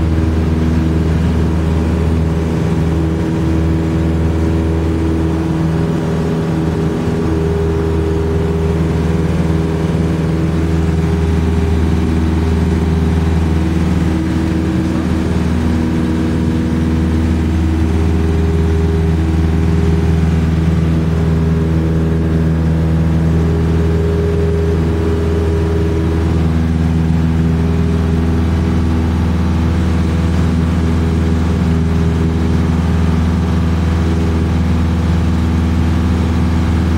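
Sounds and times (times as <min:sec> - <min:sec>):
airplane engine and propeller drone: 0:00.0 - 0:36.9.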